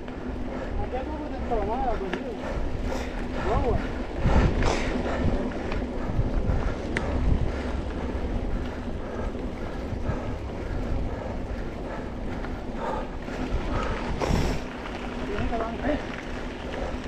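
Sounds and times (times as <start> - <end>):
mountain bike rolling on dirt: 0.0 - 17.0
wind buffeting microphone: 0.0 - 17.0.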